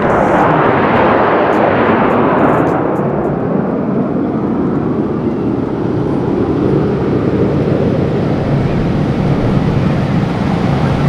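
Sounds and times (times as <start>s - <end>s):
jet aircraft roar: 0.0s - 11.0s.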